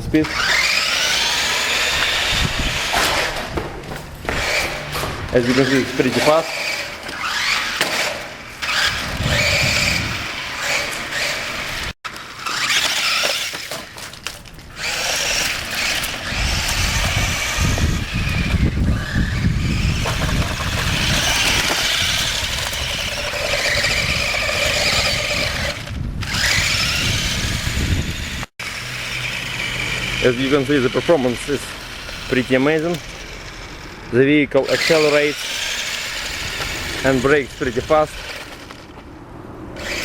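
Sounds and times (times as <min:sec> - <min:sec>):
toy truck motor whining: 0:00.2 - 0:03.6, 0:04.2 - 0:39.0, 0:39.7 - 0:40.0.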